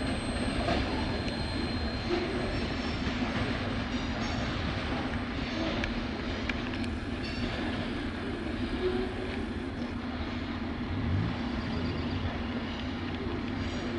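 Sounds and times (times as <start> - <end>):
freight train wheels rumbling: 0.0 - 13.9.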